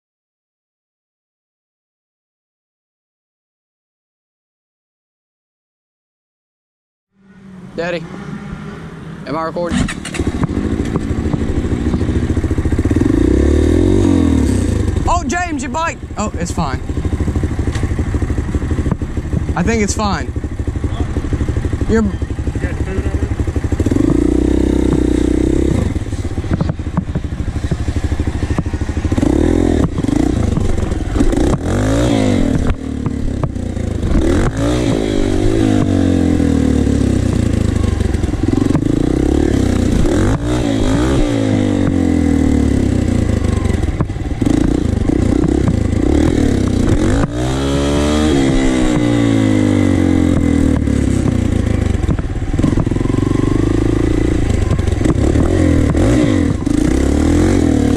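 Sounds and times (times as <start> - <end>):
dirt bike engine revving: 7.2 - 57.9.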